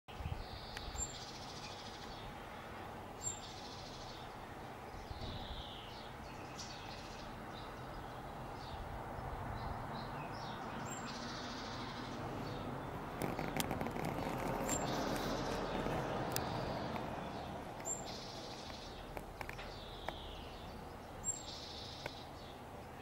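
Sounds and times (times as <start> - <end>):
songbirds singing: 0.1 - 23.0.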